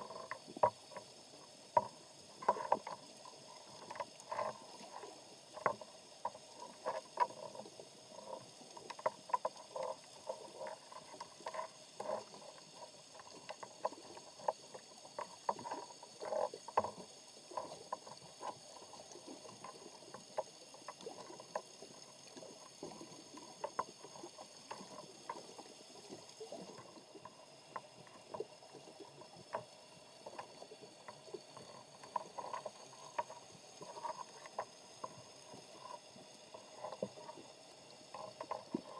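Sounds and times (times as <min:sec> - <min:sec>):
soft underwater clicks and knocks: 0:00.0 - 0:38.9.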